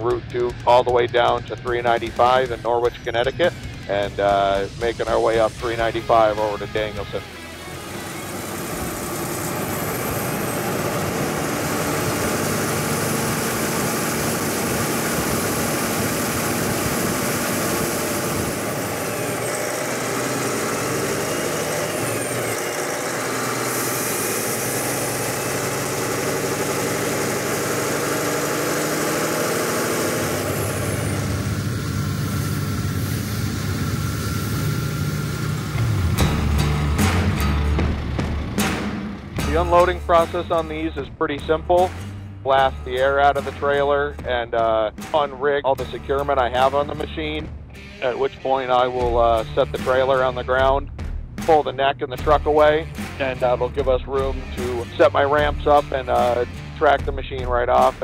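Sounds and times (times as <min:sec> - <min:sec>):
truck engine under load: 0:00.0 - 0:45.3, 0:45.9 - 0:50.8, 0:51.4 - 0:58.0
tyre and road noise: 0:00.0 - 0:50.9
deep engine rumble: 0:00.0 - 0:58.0.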